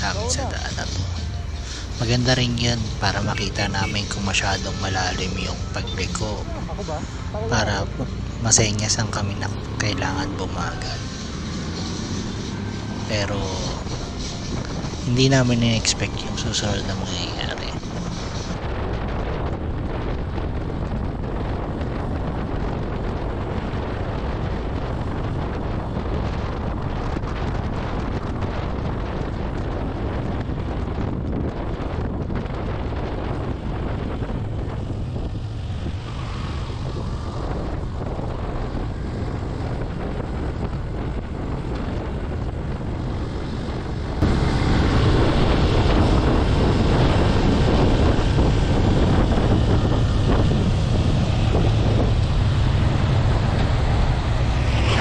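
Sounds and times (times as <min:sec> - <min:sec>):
wind roaring over microphone: 0:00.0 - 0:55.0.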